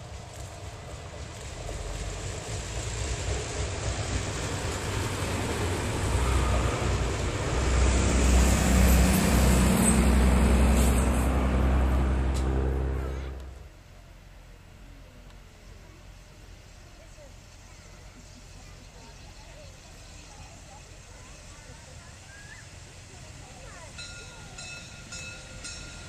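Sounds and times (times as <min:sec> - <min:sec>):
train wheels rumbling on rails: 0:00.0 - 0:14.0, 0:15.0 - 0:26.0
diesel engines droning: 0:00.0 - 0:24.6.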